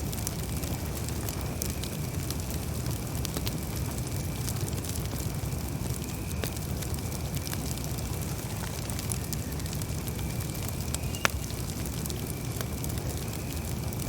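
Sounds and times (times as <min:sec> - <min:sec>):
campfire flames rumbling: 0:00.0 - 0:14.0
fire crackling: 0:00.0 - 0:14.0.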